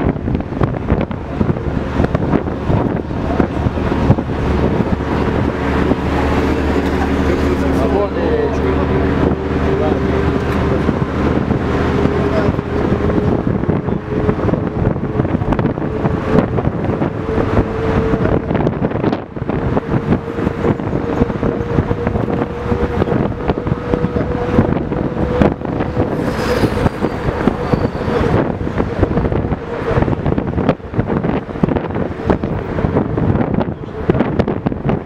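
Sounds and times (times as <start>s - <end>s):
bus engine running: 0.0s - 35.0s
road noise: 0.0s - 35.0s
steady whine: 0.0s - 35.0s
wind noise: 0.0s - 35.0s.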